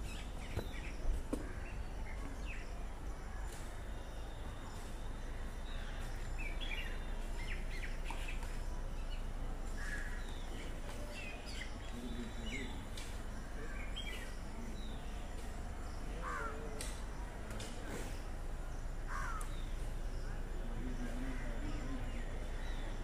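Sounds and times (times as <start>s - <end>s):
outdoor background hiss: 0.0s - 23.0s
small birds chirping: 0.0s - 23.0s.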